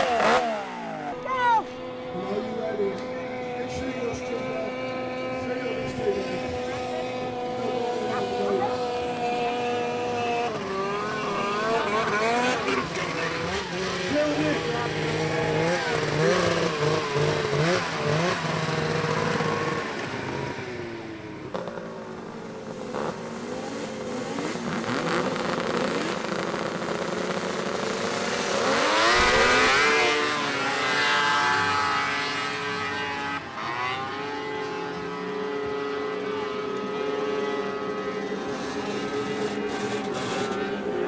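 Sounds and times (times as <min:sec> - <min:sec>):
snowmobile engines revving: 0:00.0 - 0:41.0.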